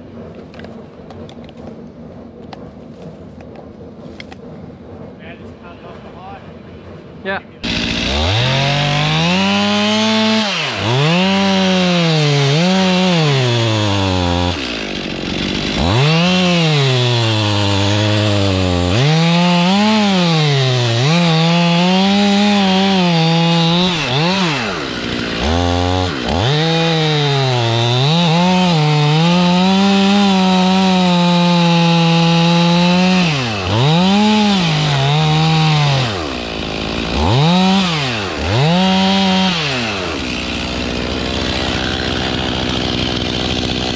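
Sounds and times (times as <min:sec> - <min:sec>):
chainsaw cutting wood: 0:07.6 - 0:43.9.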